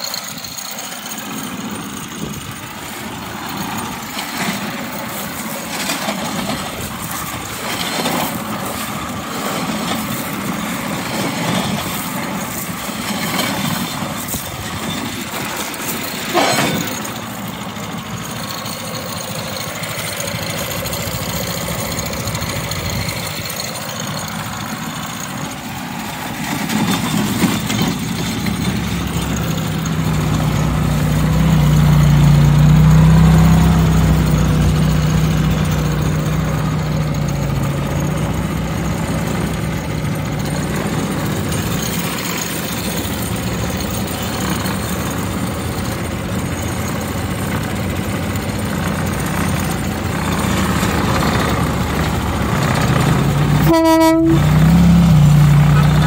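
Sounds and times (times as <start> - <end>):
small engine running: 0.0 - 56.0
wheels rolling on rails: 0.0 - 56.0.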